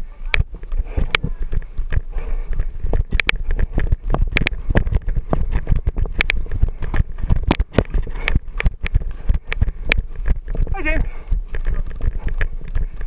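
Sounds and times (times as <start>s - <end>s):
wind buffeting microphone: 0.0s - 13.0s
gear clicking and knocking: 0.2s - 13.0s.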